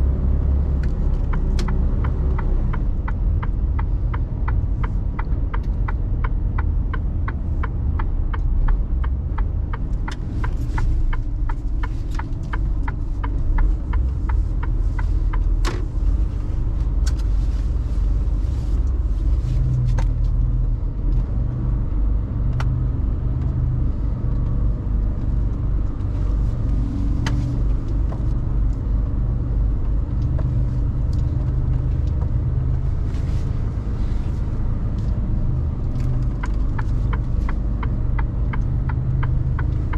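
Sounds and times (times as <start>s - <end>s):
turn indicator ticking: 0.0s - 33.9s, 34.6s - 39.9s
truck engine and road rumble: 0.0s - 39.9s.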